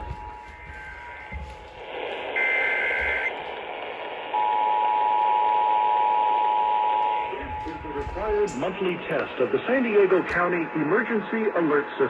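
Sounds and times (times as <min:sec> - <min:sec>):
radio hiss: 0:00.0 - 0:05.7, 0:06.4 - 0:12.0.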